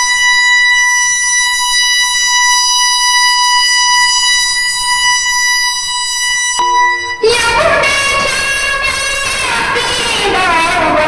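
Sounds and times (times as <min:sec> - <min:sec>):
high-pitched test tone: 0:00.0 - 0:09.8.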